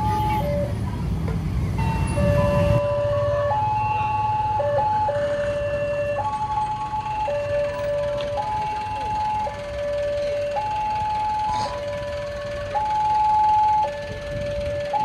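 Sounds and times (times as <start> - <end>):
two-tone crossing alarm: 1.8 - 15.0.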